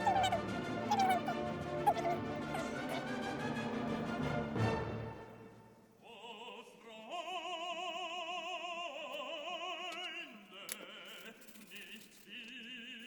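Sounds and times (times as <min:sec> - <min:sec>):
operatic singing: 0:00.0 - 0:13.0.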